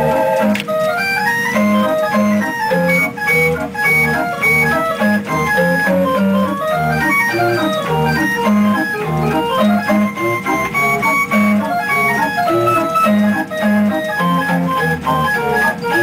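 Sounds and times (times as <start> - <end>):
organ music: 0.0 - 16.0.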